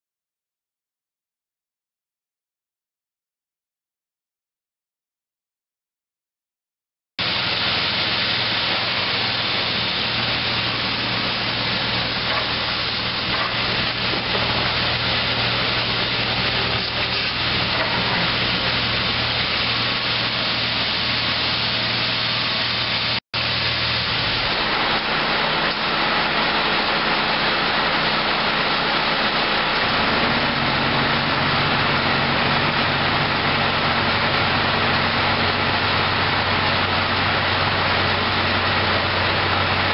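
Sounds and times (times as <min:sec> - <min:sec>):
truck engine drone: 0:07.2 - 0:39.9
vacuum pump hissing: 0:07.2 - 0:39.9.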